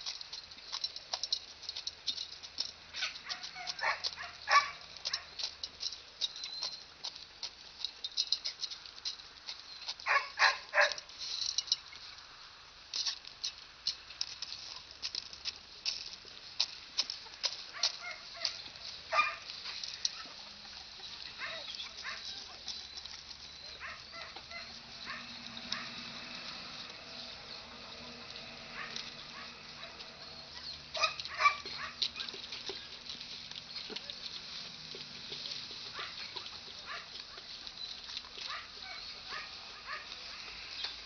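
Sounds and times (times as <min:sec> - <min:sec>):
animals pecking and clicking: 0:00.0 - 0:41.0.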